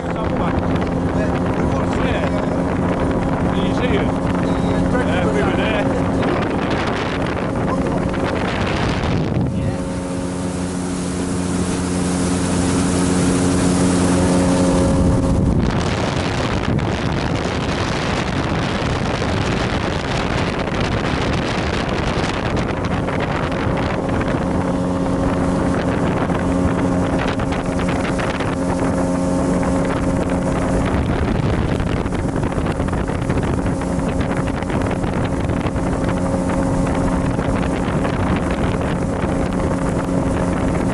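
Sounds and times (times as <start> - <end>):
boat engine droning: 0.0 - 40.9
rushing water: 0.0 - 40.9
wind buffeting microphone: 0.0 - 40.9.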